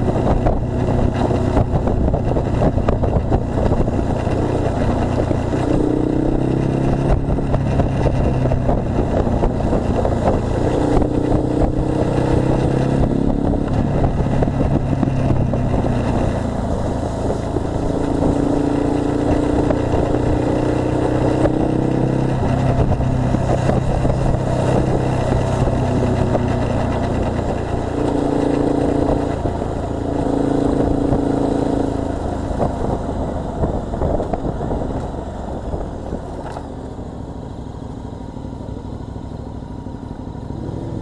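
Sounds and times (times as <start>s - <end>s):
wind rush over microphone: 0.0s - 36.8s
motorcycle engine running: 0.0s - 41.0s.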